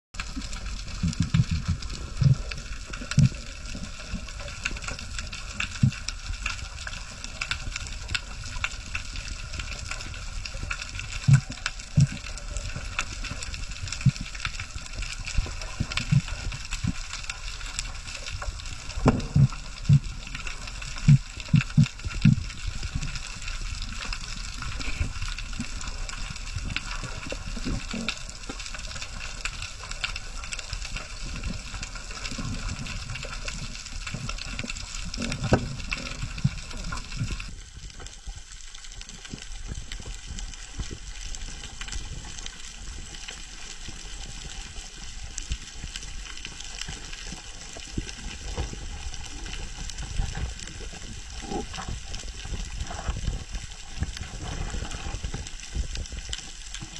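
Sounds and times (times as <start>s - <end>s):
underwater clicks and crackles: 0.1s - 56.9s
underwater rumble of moving water: 0.1s - 56.9s.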